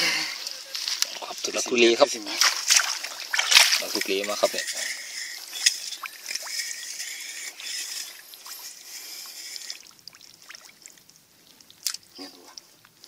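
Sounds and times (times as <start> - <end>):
water trickling: 0.4 - 13.0
wet mud squelching: 0.4 - 13.0.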